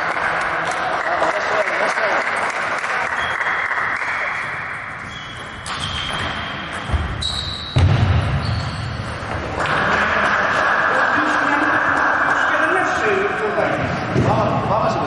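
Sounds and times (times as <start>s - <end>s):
sports hall background noise: 0.0s - 15.0s.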